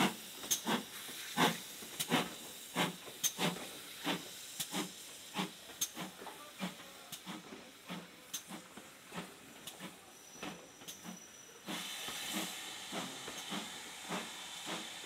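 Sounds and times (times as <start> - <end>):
steady steam hiss: 0.0 - 15.0
steam locomotive exhaust chuffs: 0.0 - 15.0.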